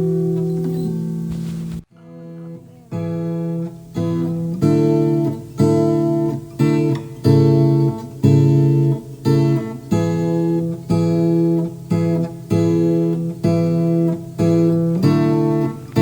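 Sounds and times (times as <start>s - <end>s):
strummed acoustic guitar chords: 0.0s - 16.0s.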